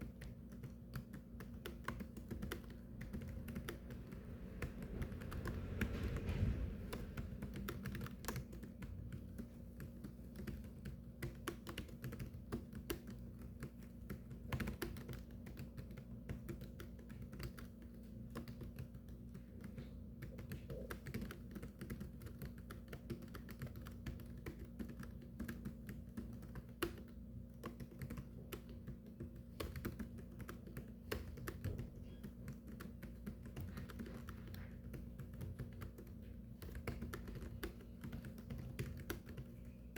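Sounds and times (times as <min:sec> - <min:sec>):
rapid keyboard typing: 0:00.0 - 0:39.9
steady low hum: 0:00.0 - 0:39.9.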